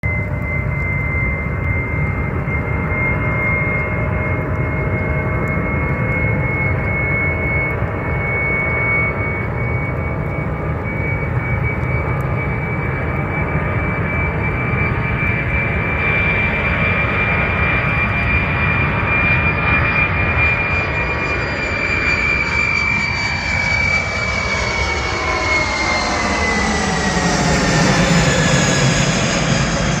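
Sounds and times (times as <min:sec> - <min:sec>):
jet engines roaring with whine: 0:00.0 - 0:30.0.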